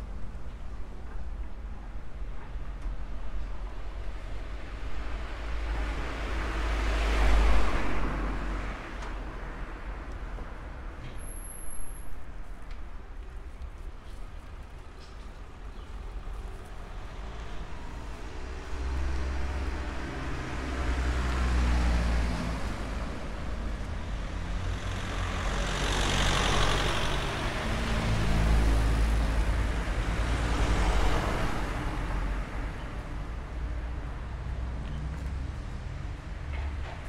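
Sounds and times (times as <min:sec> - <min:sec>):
vehicles passing close by: 0:02.6 - 0:37.0.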